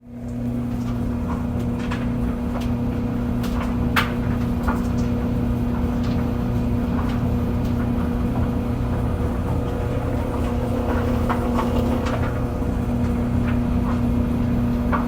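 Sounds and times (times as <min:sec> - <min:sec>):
clothes dryer humming: 0:00.0 - 0:15.0
tumbling load clicking and knocking: 0:00.3 - 0:15.0.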